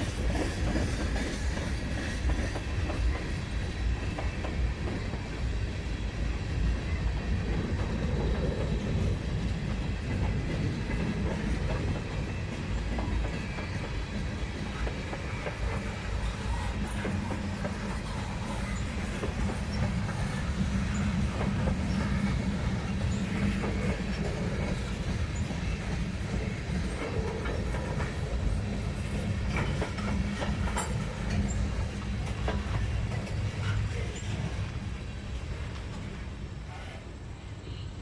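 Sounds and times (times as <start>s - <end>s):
wheels clickety-clack: 0.0s - 34.8s
train passing: 0.0s - 38.0s.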